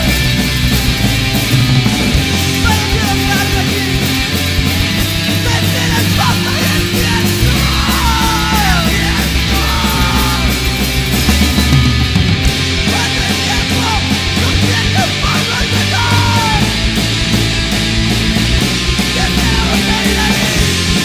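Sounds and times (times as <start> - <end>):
heavy rock band playing: 0.0 - 21.0
sliding lead guitar line: 0.0 - 21.0.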